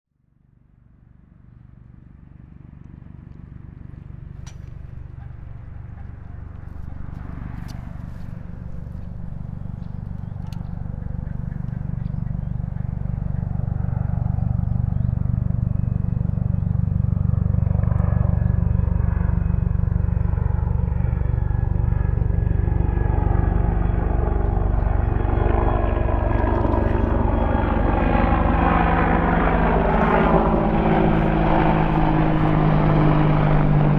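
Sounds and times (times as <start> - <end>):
helicopter engine whine: 0.6 - 33.9
helicopter rotor beat: 0.9 - 33.9.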